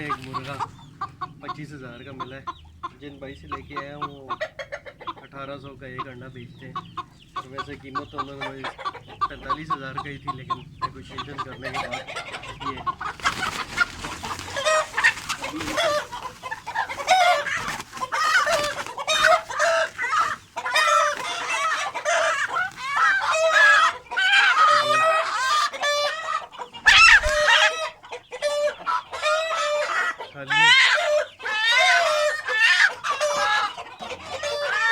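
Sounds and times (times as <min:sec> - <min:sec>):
chickens clucking and calling: 0:00.0 - 0:34.9.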